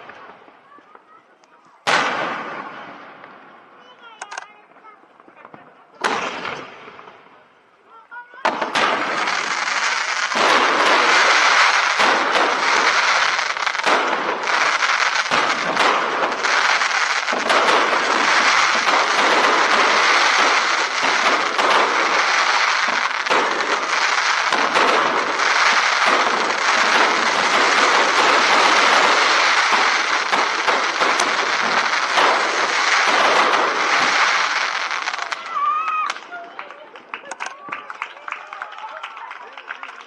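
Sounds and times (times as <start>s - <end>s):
fireworks bursting and crackling: 0.0s - 40.0s.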